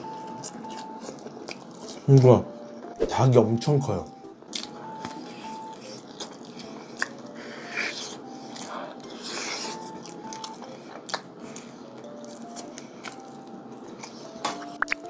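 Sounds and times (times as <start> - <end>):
chewing fried chicken: 0.0 - 2.2, 4.5 - 15.0.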